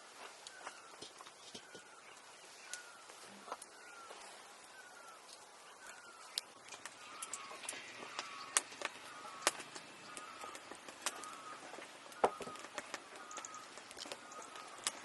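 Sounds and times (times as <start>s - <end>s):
bird chirps: 0.3s - 15.0s.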